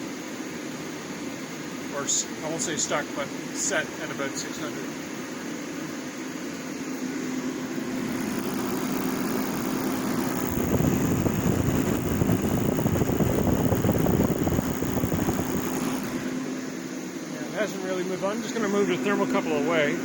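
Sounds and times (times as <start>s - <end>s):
constant low hum: 0.0s - 20.0s
propane heater roaring: 0.0s - 20.0s.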